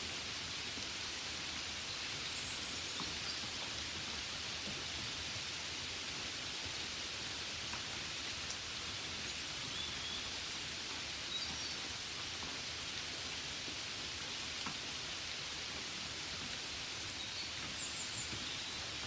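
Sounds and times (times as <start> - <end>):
gentle rain: 0.0 - 19.0.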